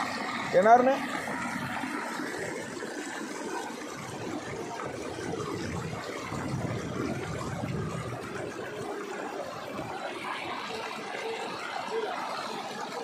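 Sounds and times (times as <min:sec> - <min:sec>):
water gushing from a pipe: 0:00.0 - 0:13.0.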